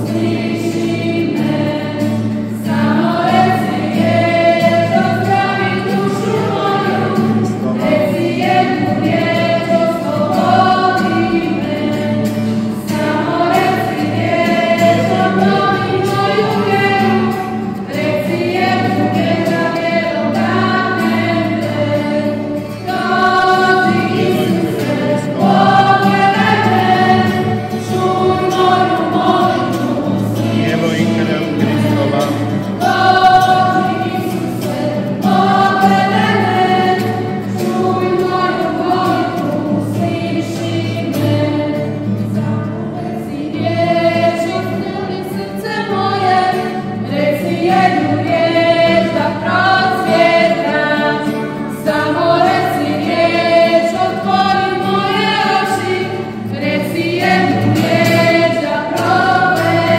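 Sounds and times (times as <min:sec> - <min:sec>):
choir singing a hymn: 0:00.0 - 0:59.9.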